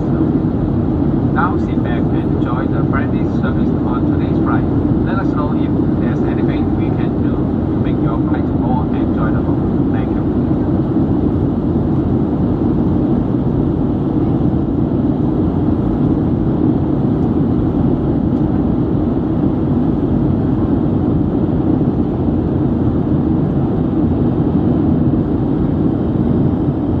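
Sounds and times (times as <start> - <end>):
airplane cabin roar: 0.0 - 27.0.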